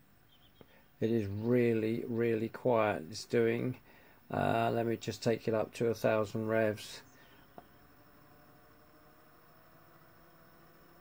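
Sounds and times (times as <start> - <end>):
faint electric motor hum: 0.0 - 11.0.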